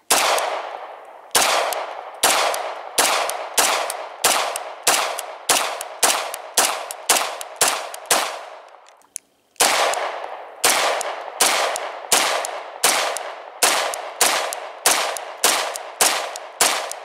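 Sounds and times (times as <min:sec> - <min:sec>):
pistol shots echoing: 0:00.0 - 0:08.8, 0:09.6 - 0:17.0.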